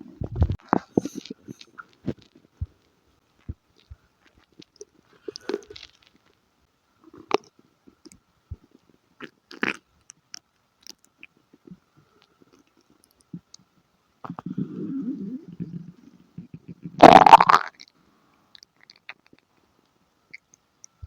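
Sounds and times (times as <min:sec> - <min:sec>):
stomach gurgling with wet clicks: 0:00.2 - 0:02.8, 0:03.4 - 0:06.3, 0:07.1 - 0:18.0, 0:18.6 - 0:19.6, 0:20.3 - 0:21.0.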